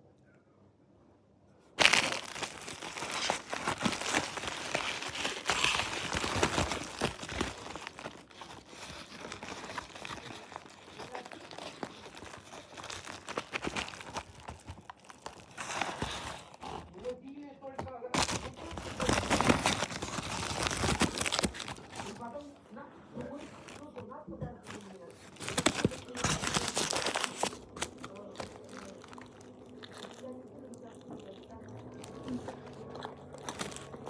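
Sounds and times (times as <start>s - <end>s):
food wrapping crinkling: 1.8s - 34.0s.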